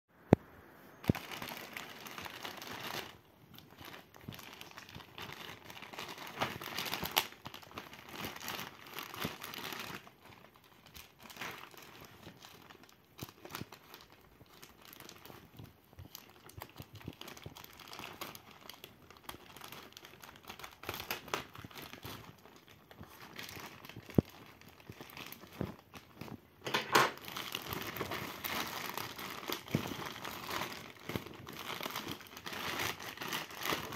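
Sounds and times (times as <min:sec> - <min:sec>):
plastic bag crinkling and rustling: 0:00.9 - 0:33.9.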